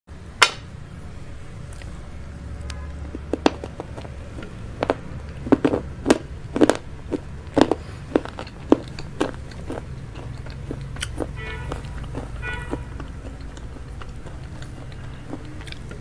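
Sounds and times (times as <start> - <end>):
low steady hum: 0.1 - 16.0.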